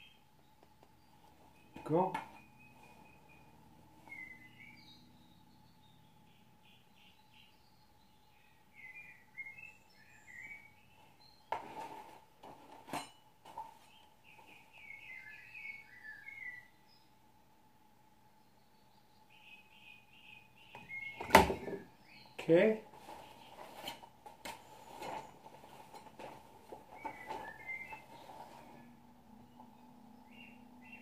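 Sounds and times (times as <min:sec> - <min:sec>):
faint steady hum: 0:00.0 - 0:31.0
small birds chirping faintly: 0:00.0 - 0:31.0.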